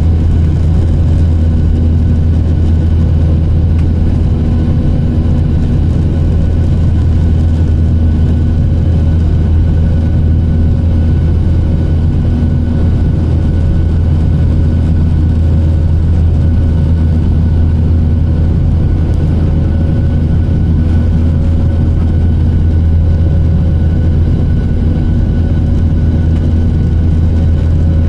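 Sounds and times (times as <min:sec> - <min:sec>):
faint steady whines: 0:00.0 - 0:28.0
jet engine and airflow drone: 0:00.0 - 0:28.0.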